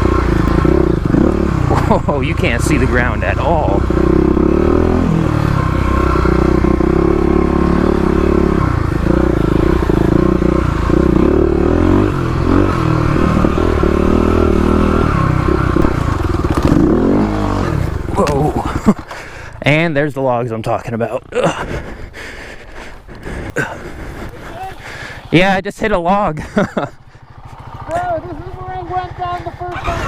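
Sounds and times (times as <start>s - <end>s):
motorcycle engine revving: 0.0s - 20.0s, 20.6s - 30.0s.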